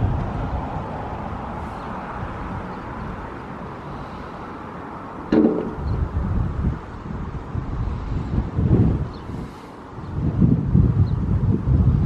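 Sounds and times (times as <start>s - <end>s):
wind buffeting microphone: 0.0s - 4.3s, 5.2s - 12.0s.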